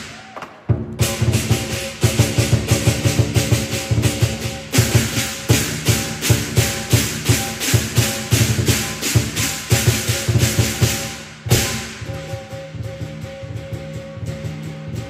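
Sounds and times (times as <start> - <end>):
cymbals crashing: 0.0 - 15.0
large drum beating: 0.0 - 15.0.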